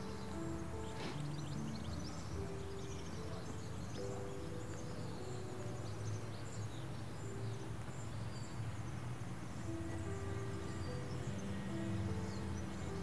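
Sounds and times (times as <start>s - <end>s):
birds chirping faintly: 0.0s - 13.0s
soft music with low drone: 0.0s - 13.0s.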